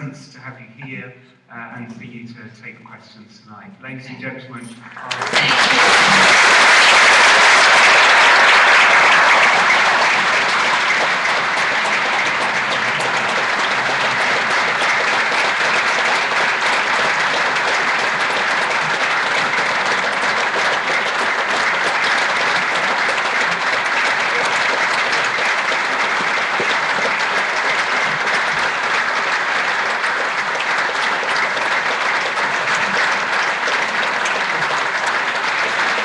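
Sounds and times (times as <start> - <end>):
audience applauding: 4.9 - 36.0.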